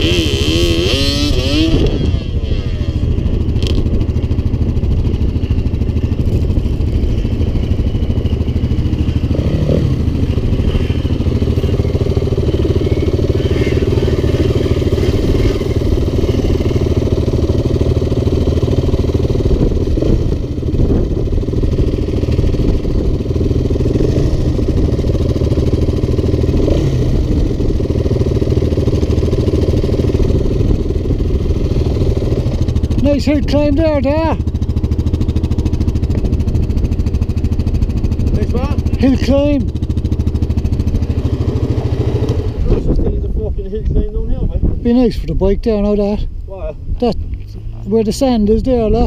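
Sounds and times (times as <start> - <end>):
quad and dirt bike engines idling: 0.0 - 49.0.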